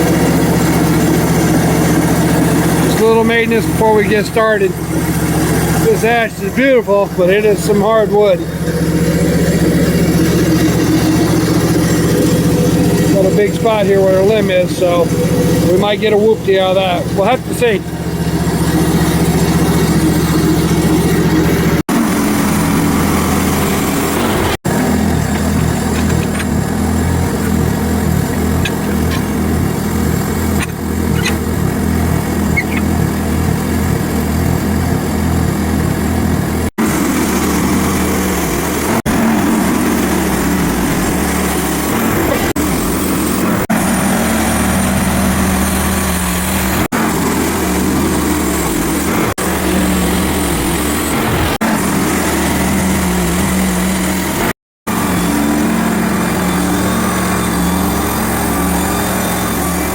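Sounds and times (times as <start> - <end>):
sawmill engine cutting log: 0.0 - 59.9.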